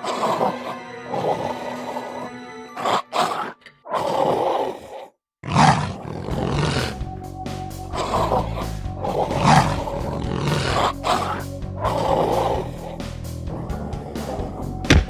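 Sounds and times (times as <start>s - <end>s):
background music: 0.0s - 4.6s, 5.8s - 15.0s
dinosaur roars and growls: 0.0s - 7.2s, 7.8s - 14.9s.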